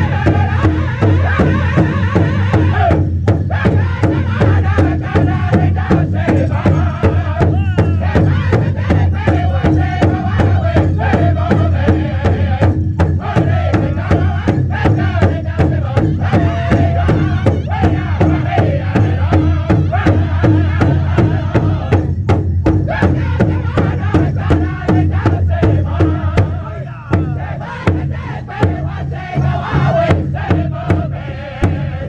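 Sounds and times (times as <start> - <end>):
group singing together: 0.0 - 32.0
large drum beating in unison: 0.0 - 32.0.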